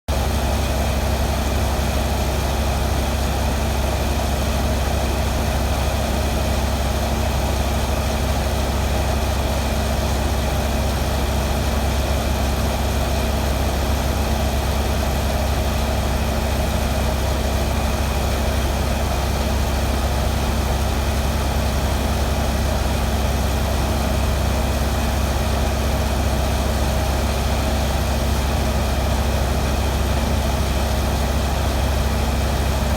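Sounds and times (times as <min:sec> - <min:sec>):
heavy engine idling: 0:00.1 - 0:32.9.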